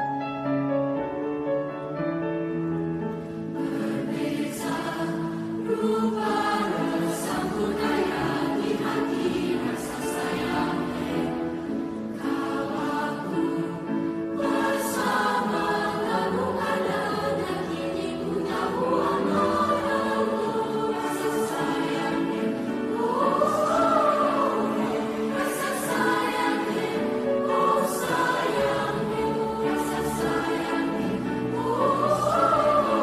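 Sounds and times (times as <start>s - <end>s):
choir singing in parts: 3.2s - 33.0s.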